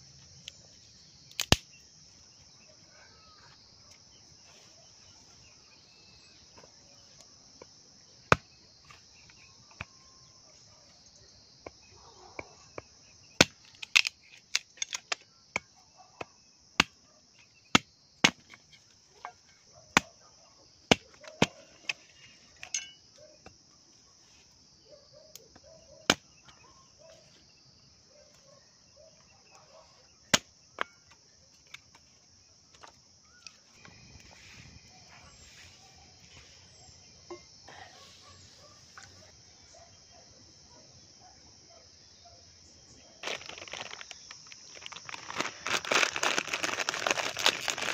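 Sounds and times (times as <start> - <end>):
high drone of insects: 0.0 - 47.9.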